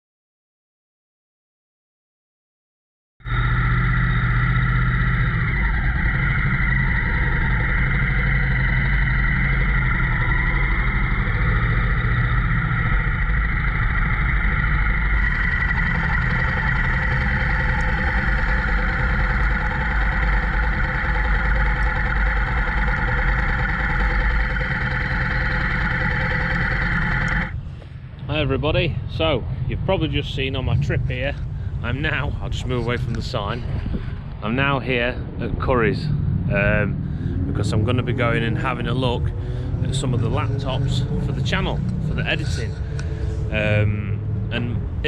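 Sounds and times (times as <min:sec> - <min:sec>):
motorcycle engine droning: 0:03.2 - 0:45.0.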